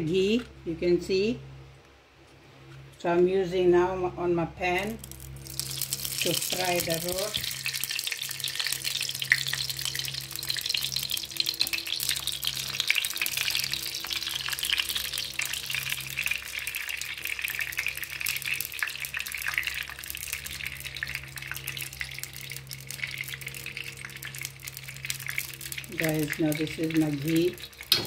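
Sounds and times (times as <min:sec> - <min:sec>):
ghee sizzling in a pot: 0:04.8 - 0:28.0.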